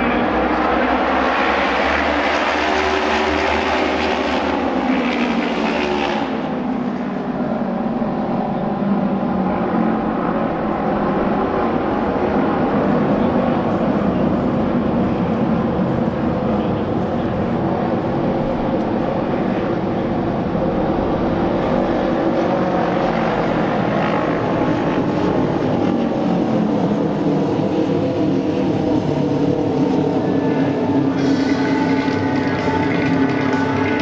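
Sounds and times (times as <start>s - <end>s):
racing motorcycle engines droning: 0.0s - 34.0s.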